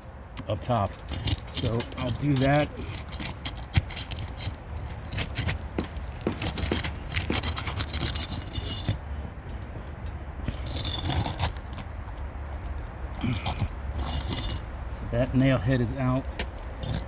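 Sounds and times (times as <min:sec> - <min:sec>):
pry bar scraping shingles: 0:00.4 - 0:17.0.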